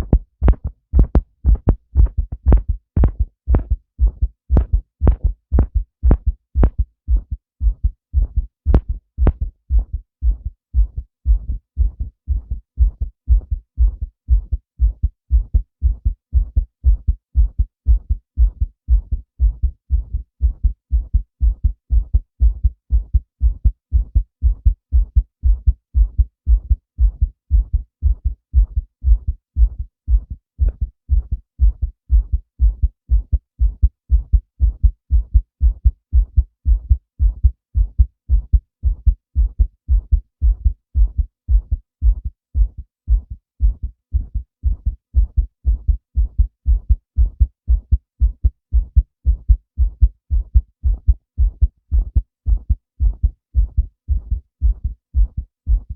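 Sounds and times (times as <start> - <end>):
heartbeat thumps: 0.0 - 55.9.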